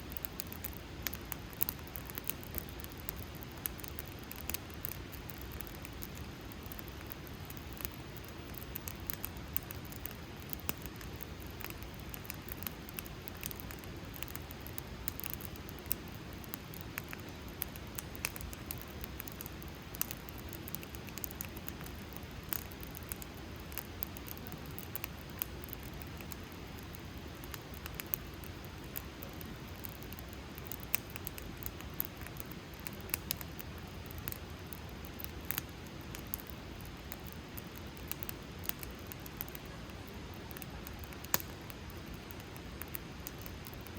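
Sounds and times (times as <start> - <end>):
fire crackling and popping: 0.0 - 43.9
campfire flames rushing: 0.1 - 43.9.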